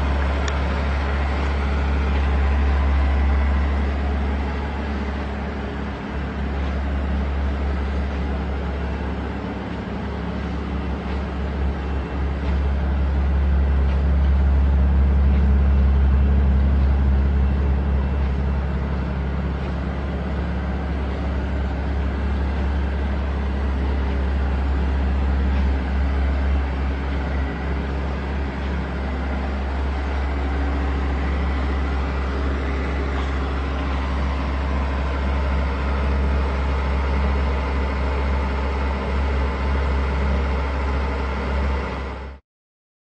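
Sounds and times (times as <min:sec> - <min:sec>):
car engine droning: 0:00.0 - 0:42.4.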